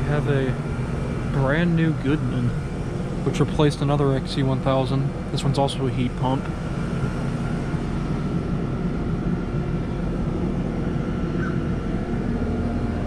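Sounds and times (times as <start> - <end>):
heat pump fan and compressor hum: 0.0 - 13.0.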